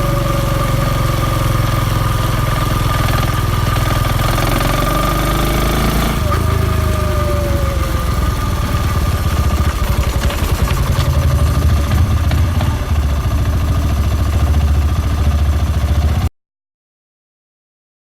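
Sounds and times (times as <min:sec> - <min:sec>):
engine running with whine: 0:00.0 - 0:16.3.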